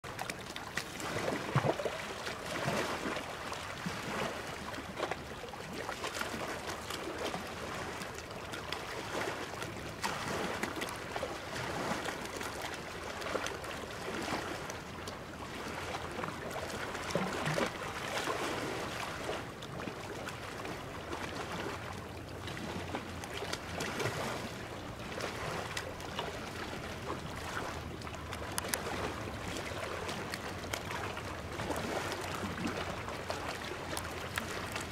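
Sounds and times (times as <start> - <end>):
sea water lapping and splashing: 0.0 - 34.9.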